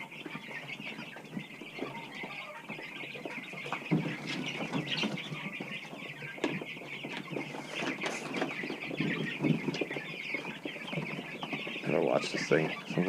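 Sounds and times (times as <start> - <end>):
chickens chirping and clucking: 0.0 - 13.0.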